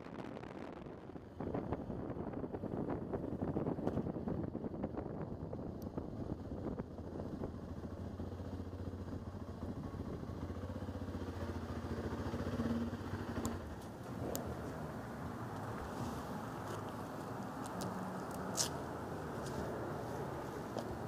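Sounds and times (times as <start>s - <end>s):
motorcycle engine running slowly: 3.6s - 21.0s.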